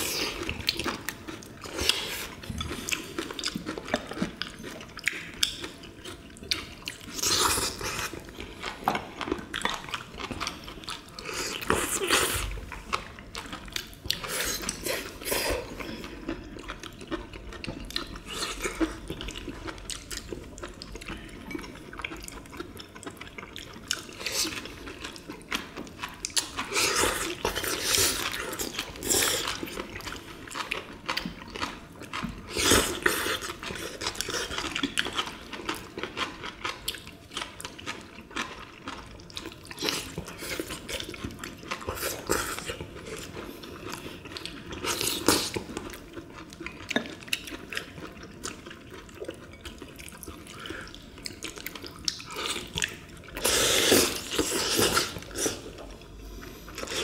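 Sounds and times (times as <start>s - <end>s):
slurping and chewing: 0.0s - 57.0s.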